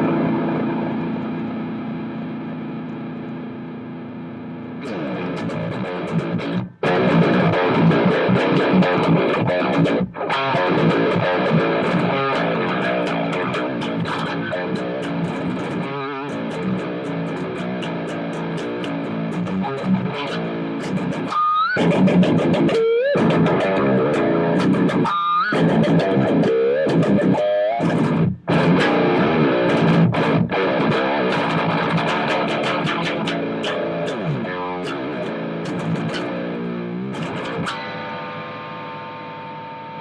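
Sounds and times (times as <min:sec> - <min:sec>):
distorted guitar music: 0:00.0 - 0:40.0.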